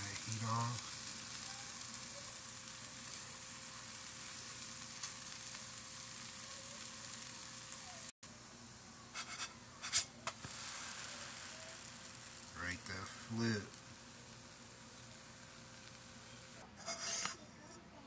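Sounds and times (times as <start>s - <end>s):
food sizzling in frying pan: 0.0s - 17.3s.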